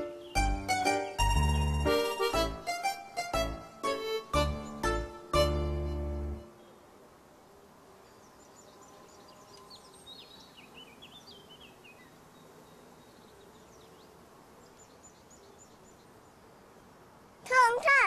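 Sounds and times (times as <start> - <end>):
small birds chirping: 0.0 - 7.0, 8.0 - 18.0.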